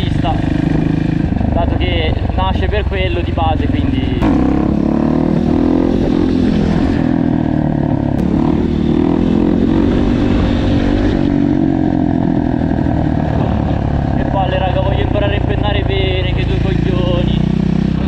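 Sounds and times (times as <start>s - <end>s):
wind on microphone: 0.0s - 16.1s
small motorcycle engine running: 0.0s - 18.0s.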